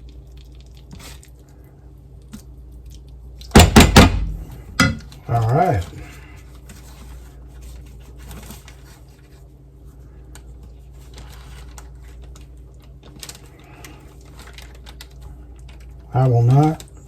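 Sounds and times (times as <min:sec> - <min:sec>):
tortilla rustling and tapping: 0:00.0 - 0:16.1
low steady hum: 0:00.0 - 0:17.0.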